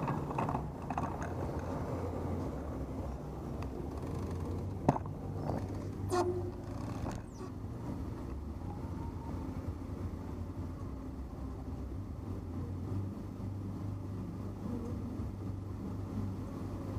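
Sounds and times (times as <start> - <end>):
traffic and bike riding rumble: 0.0 - 16.9.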